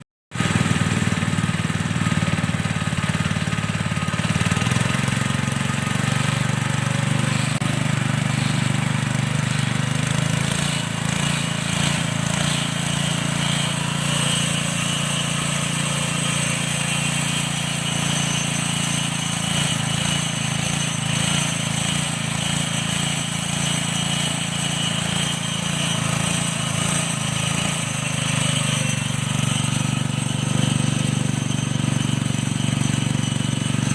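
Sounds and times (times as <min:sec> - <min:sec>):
pellet machine droning: 0:00.4 - 0:33.9.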